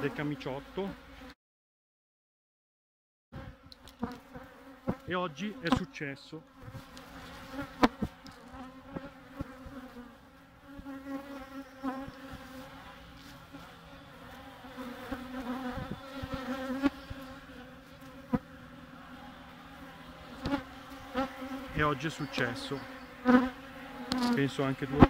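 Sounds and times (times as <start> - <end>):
honeybees buzzing: 0.0 - 1.4, 3.4 - 25.0.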